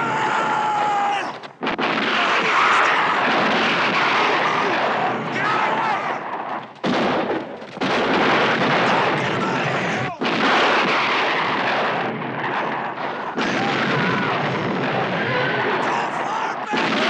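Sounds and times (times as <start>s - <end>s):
dense continuous din: 0.0s - 17.0s
rifle shots: 1.5s - 17.0s.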